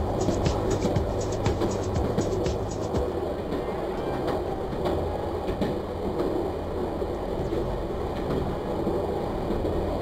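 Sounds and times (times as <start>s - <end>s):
train rumbling on track: 0.0s - 10.0s
wheels clicking on rails: 0.0s - 10.0s.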